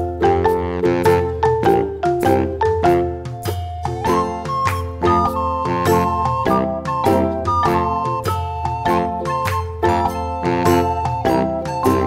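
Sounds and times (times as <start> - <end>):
mallet percussion melody: 0.0 - 12.0.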